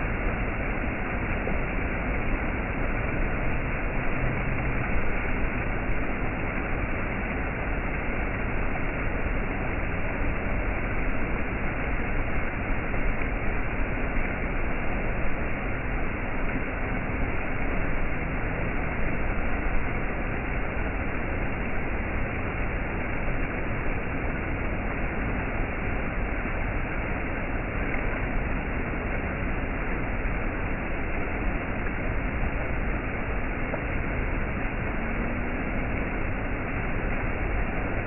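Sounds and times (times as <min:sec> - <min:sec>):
stream water cascading over rocks: 0:00.0 - 0:38.0.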